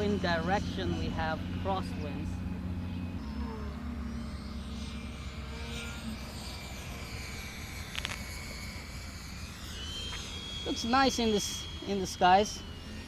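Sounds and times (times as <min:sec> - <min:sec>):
high-pitched fan whine: 0:00.0 - 0:13.0.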